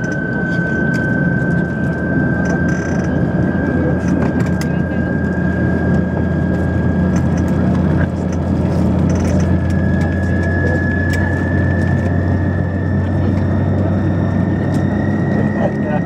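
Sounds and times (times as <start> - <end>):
high turbine whine: 0.0 - 16.0
propeller drone: 0.0 - 16.0.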